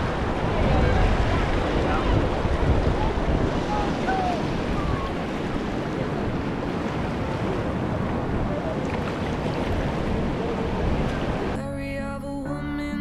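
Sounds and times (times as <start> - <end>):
small waves breaking on sand: 0.0 - 11.6
wind rumbling on microphone: 0.0 - 11.6.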